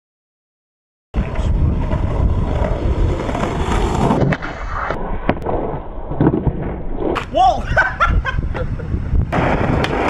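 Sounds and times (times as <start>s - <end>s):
skateboard wheels rolling on asphalt: 1.2s - 10.0s.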